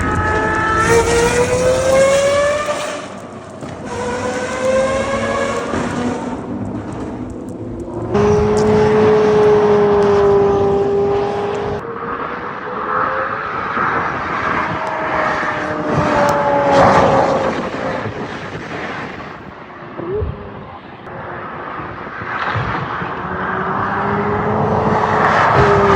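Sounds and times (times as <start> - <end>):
car engine revving: 0.0 - 18.6, 22.1 - 25.9.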